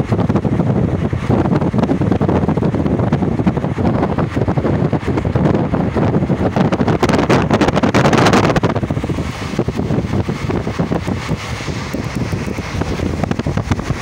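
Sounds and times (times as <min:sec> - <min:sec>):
train rumbling on track: 0:00.0 - 0:14.0
wind buffeting microphone: 0:00.0 - 0:14.0.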